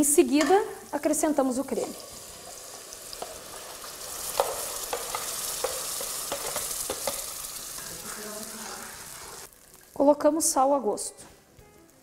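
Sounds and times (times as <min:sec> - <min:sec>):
oil sizzling in a pot: 0:00.0 - 0:12.0.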